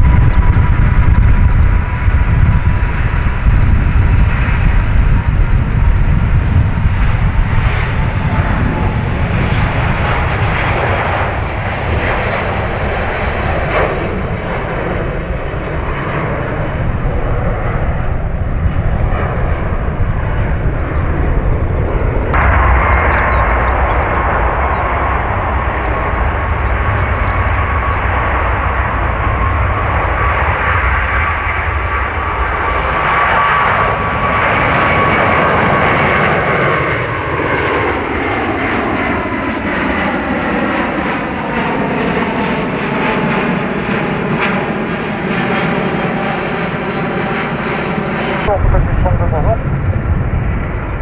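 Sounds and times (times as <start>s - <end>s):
jet aircraft passing overhead: 0.0s - 51.0s
jet engines at takeoff: 0.0s - 51.0s.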